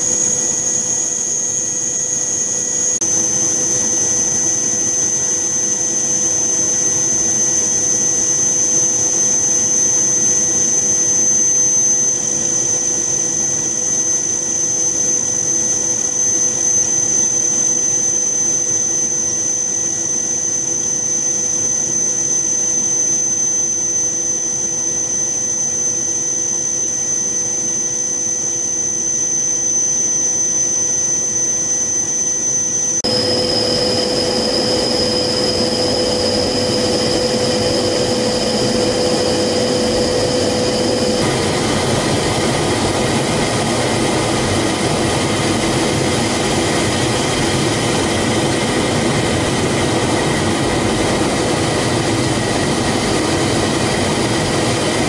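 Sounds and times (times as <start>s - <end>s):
high whine: 0.0s - 55.0s
propeller aircraft drone: 0.0s - 55.0s.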